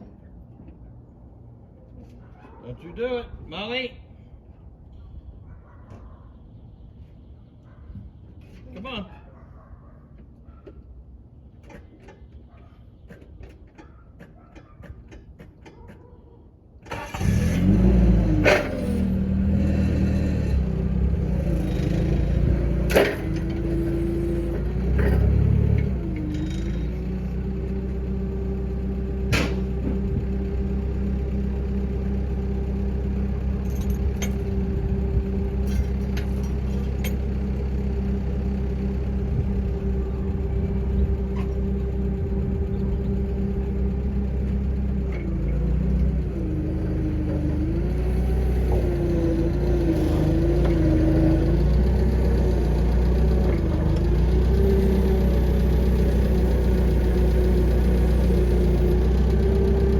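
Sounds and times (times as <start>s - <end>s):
engine idling with whine: 9.8s - 59.9s.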